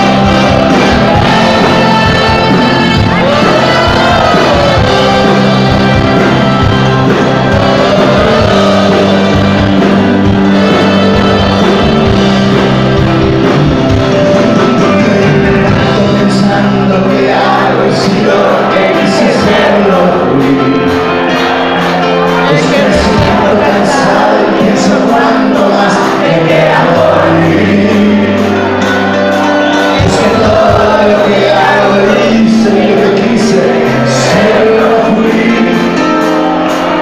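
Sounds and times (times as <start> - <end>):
lead singer singing: 0.0 - 37.0
rock band playing live: 0.0 - 37.0.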